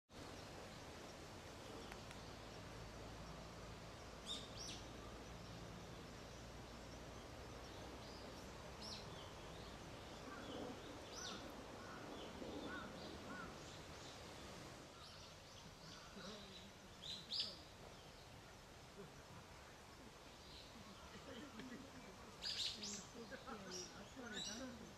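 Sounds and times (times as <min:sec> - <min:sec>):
outdoor background hiss: 0:00.1 - 0:24.9
birds chirping: 0:00.2 - 0:24.9.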